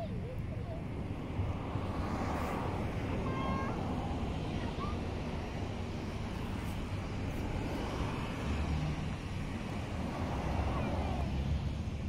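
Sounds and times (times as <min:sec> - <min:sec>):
aircraft engines rumbling: 0:00.0 - 0:12.0.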